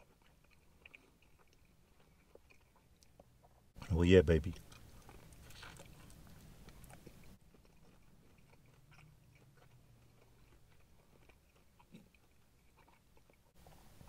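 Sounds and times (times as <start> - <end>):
chewing mouth clicks and smacks: 0.0 - 13.8.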